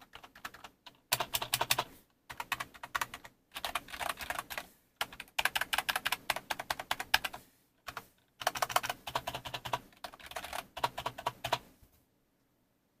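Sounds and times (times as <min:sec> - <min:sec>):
rapid keyboard keystrokes: 0:00.0 - 0:11.7.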